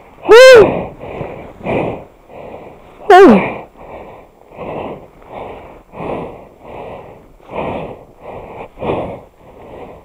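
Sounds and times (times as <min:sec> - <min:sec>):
person breathing hard: 0:00.0 - 0:10.0.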